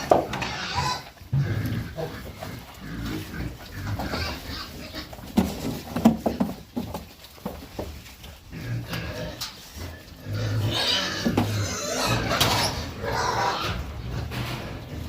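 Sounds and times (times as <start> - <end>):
pigs grunting and squealing: 0.0 - 6.8, 8.3 - 15.0.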